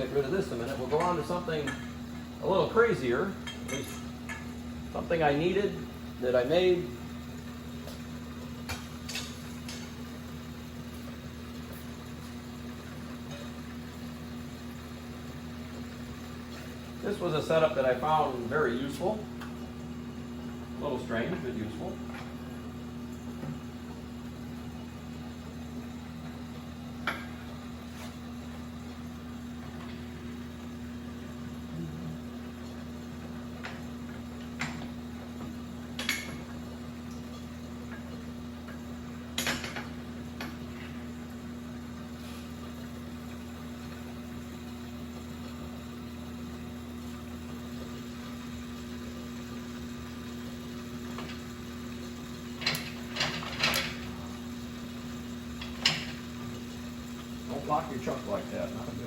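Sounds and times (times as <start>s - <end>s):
shop machine hum: 0.0s - 59.0s.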